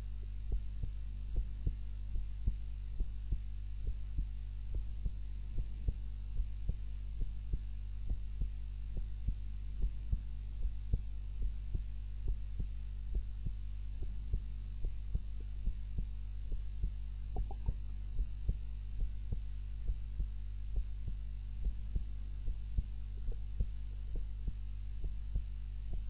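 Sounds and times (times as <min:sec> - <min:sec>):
soft heartbeat: 0:00.0 - 0:26.0
steady low hum: 0:00.0 - 0:26.0.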